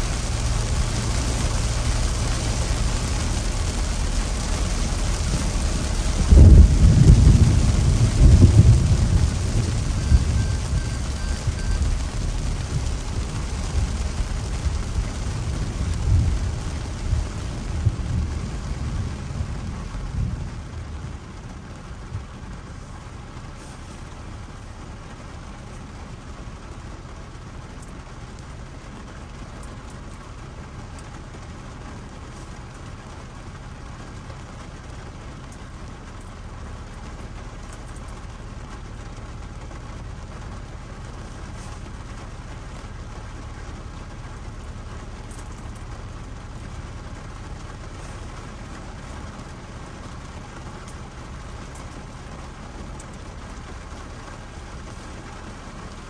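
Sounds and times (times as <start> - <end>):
low rumble from car: 0.0 - 56.0
rain on car windshield and roof: 0.0 - 56.0.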